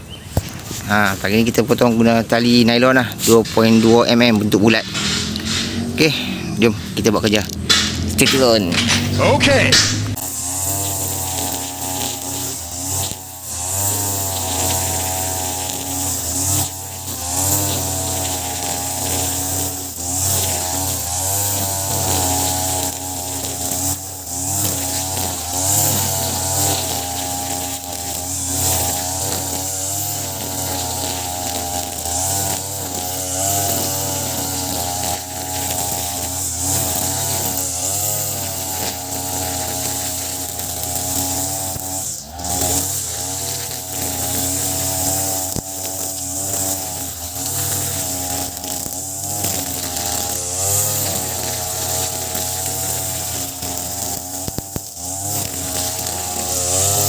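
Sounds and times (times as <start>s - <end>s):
brush cutter running at high revs: 0.0s - 57.0s.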